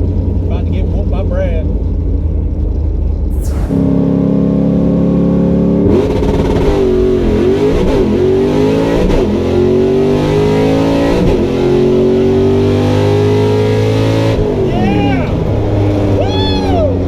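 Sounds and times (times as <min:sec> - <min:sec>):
drag car engine revving: 0:01.7 - 0:16.2.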